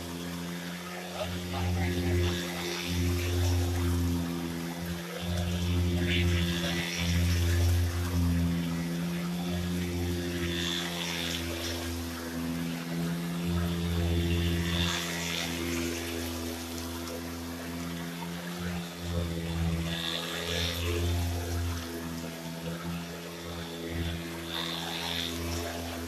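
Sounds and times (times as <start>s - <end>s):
dirtbike engine running: 0.0s - 26.0s.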